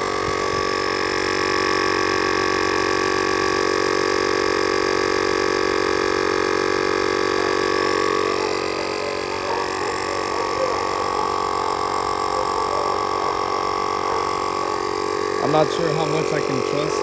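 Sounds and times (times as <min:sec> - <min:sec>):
tire inflator compressor running: 0:00.0 - 0:17.0.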